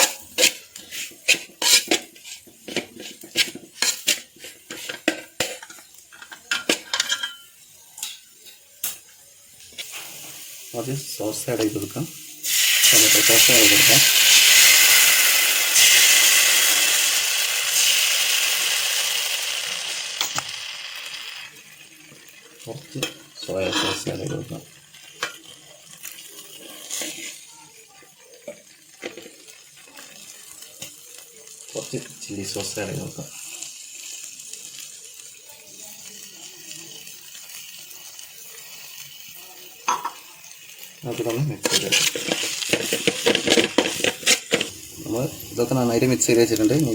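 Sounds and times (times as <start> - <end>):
sauce sizzling in hot pan: 0.0 - 46.9.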